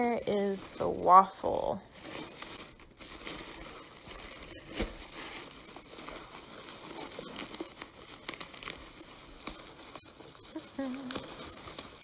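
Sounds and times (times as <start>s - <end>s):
bubble wrap crinkling and rustling: 0.0s - 12.0s.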